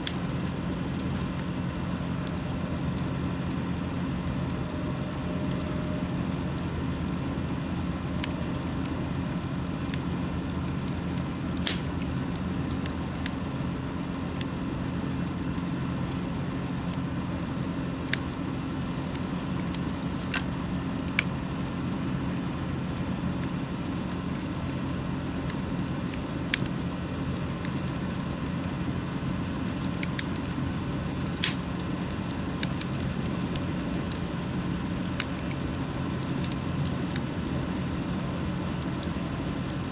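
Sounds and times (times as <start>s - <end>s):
campfire crackling and popping: 0.0s - 39.9s
low background rumble: 0.0s - 39.9s.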